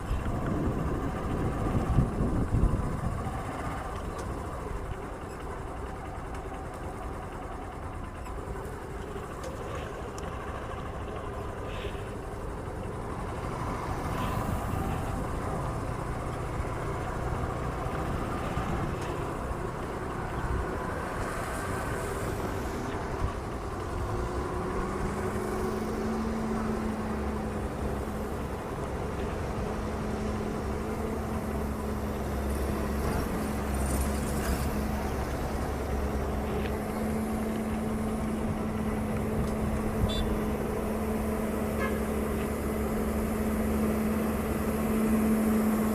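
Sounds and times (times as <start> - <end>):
road traffic rumble: 0.0 - 45.9
steady engine hum: 0.0 - 45.9.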